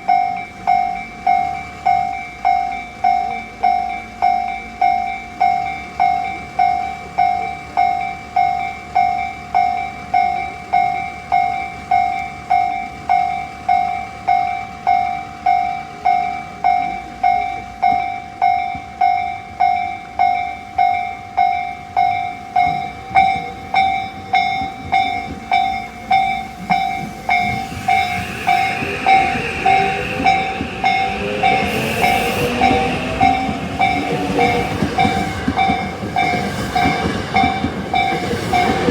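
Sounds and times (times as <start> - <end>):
level-crossing warning bell: 0.0 - 38.9
train running noise: 0.0 - 38.9.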